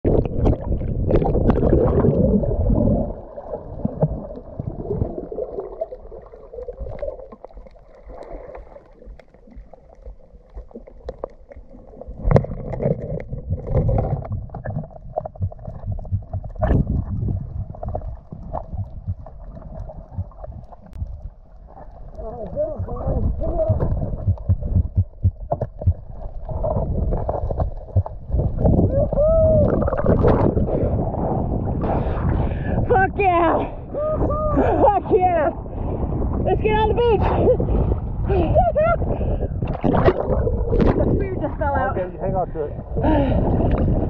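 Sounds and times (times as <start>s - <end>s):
muffled underwater water noise: 0.0s - 44.0s.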